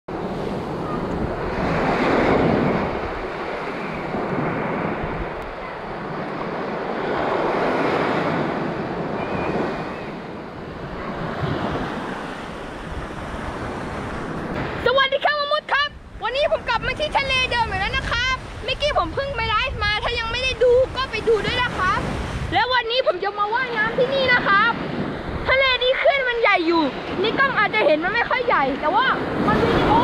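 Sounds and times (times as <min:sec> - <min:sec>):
waves breaking on sandy beach: 0:00.1 - 0:30.0
wind rumbling on microphone: 0:00.1 - 0:30.0.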